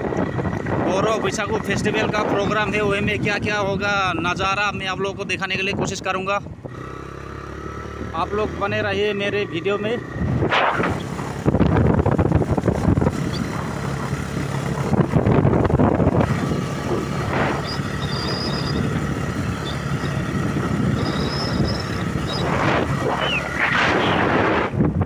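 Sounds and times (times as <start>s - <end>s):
motorcycle engine running: 0.0s - 4.6s, 6.5s - 23.6s
wind buffeting microphone: 0.0s - 7.1s, 10.0s - 25.0s.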